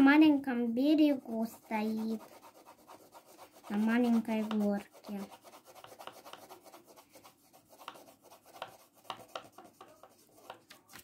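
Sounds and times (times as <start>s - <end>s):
pencil scratching on paper: 1.0s - 10.8s.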